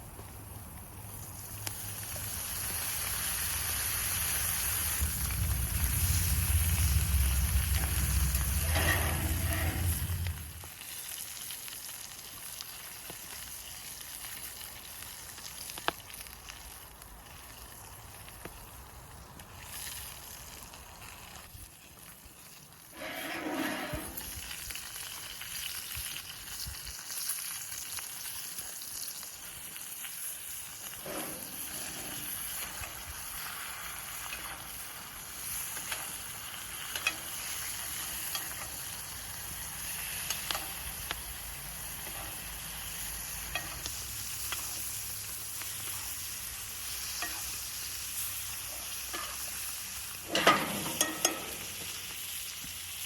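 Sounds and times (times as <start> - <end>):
meat sizzling in a skillet: 0.3 - 53.0.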